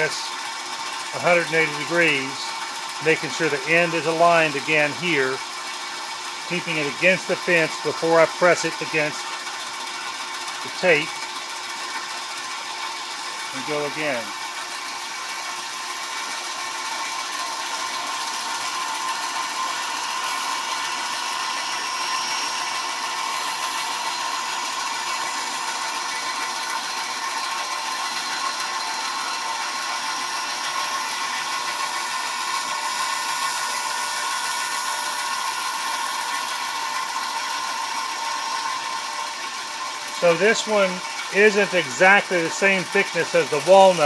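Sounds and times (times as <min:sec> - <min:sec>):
bandsaw cutting wood: 0:01.0 - 0:05.4, 0:06.4 - 0:44.0.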